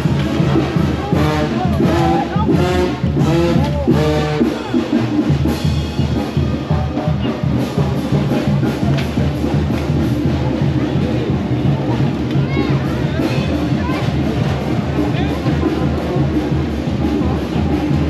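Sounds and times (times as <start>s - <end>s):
brass band playing: 0.0s - 18.0s
steady drum beat: 0.0s - 18.0s.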